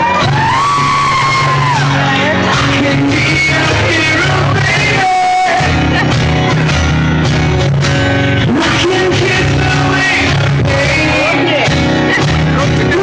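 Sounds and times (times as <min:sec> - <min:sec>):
man singing live: 0:00.0 - 0:07.1, 0:07.9 - 0:13.0
acoustic guitar: 0:00.0 - 0:13.0.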